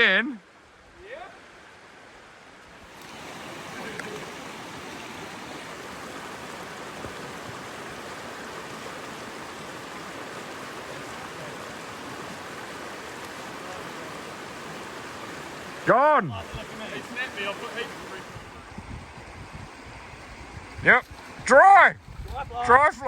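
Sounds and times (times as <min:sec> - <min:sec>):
river water rushing over riffle: 0:00.0 - 0:23.0.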